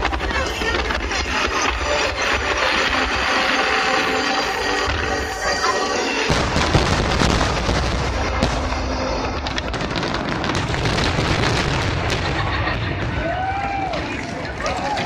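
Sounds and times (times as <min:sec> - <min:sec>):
fireworks booming: 0:00.0 - 0:15.0
sharp fireworks reports: 0:00.0 - 0:15.0.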